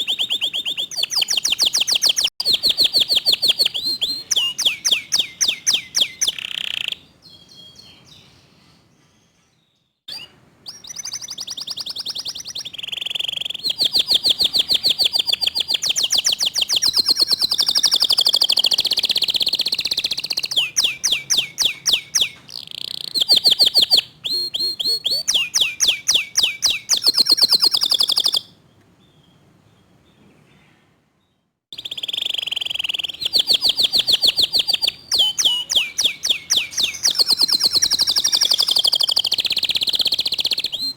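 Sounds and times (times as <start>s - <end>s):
canary singing trills: 0.0s - 9.5s, 10.1s - 30.0s, 31.7s - 40.9s.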